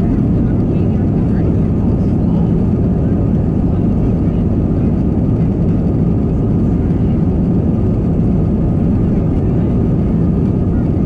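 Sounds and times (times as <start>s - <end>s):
jet engine rumble inside cabin: 0.0s - 11.0s.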